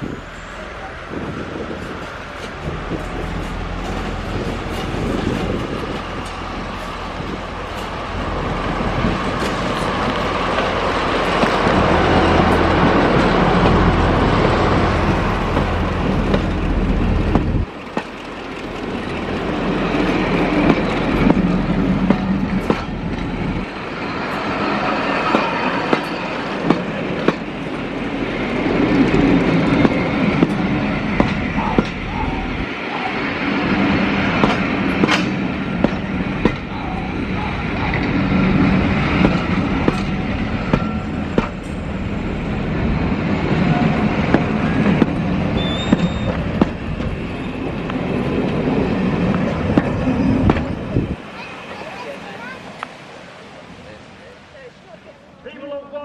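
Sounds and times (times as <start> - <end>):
train wheels clattering on rails: 1.5 - 52.0.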